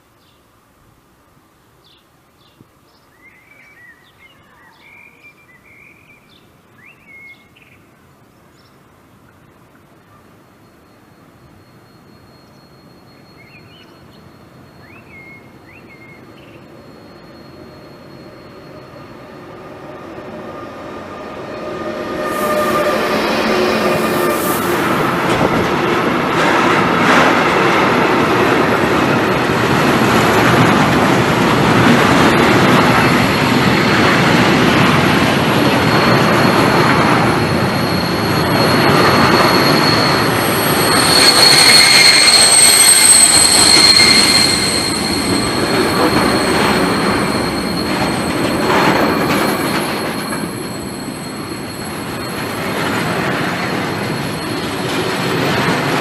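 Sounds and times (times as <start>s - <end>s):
high wheel squeal: 10.7s - 56.0s
train wheels on rails: 10.7s - 56.0s.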